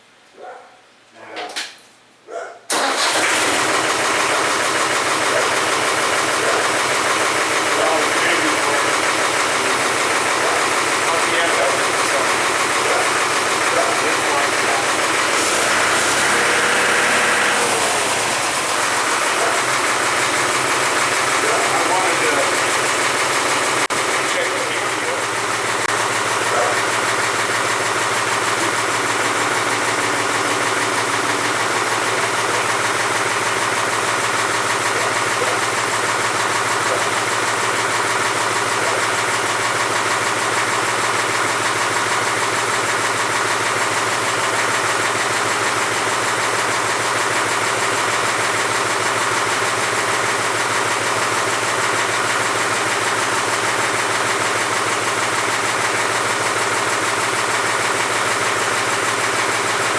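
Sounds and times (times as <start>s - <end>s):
tractor diesel engine idling: 2.7s - 59.9s.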